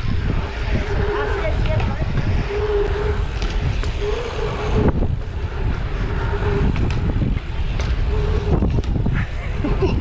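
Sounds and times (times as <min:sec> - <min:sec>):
bike tyres rolling fast: 0:00.0 - 0:10.0
wind rushing over microphone: 0:00.0 - 0:10.0.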